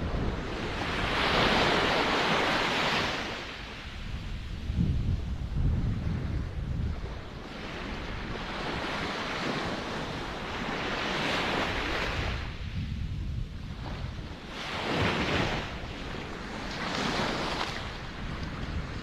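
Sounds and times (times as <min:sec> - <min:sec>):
ocean waves breaking: 0:00.0 - 0:19.0
wind rumble on microphone: 0:00.0 - 0:19.0.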